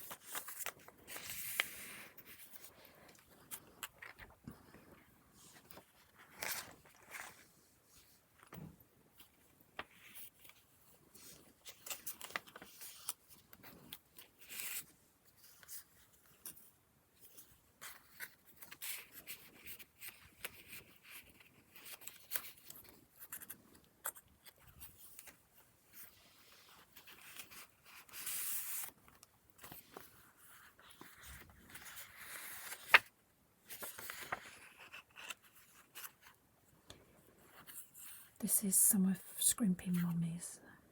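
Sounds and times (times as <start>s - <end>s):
paper pages rustling: 0.0s - 38.3s.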